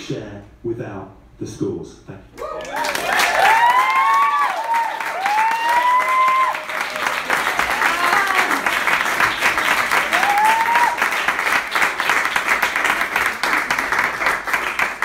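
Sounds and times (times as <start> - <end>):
audience applauding: 2.4 - 15.0.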